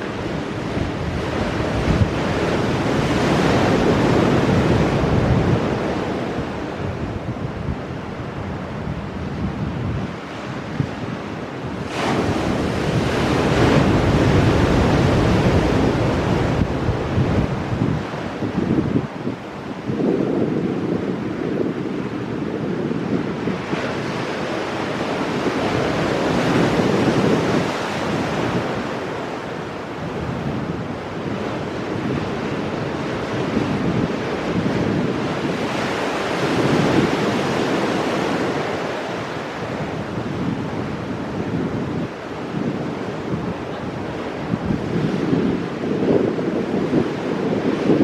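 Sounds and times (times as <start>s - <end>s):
waves crashing over rocks: 0.0s - 48.0s
wind rumble on microphone: 0.0s - 48.0s.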